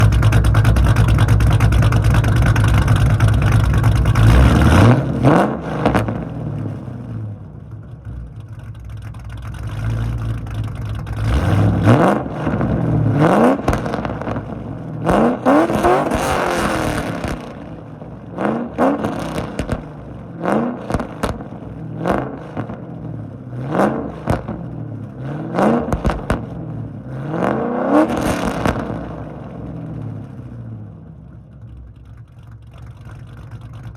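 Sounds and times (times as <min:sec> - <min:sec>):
car engine revving: 0:00.0 - 0:33.9
exhaust crackles: 0:00.0 - 0:33.9.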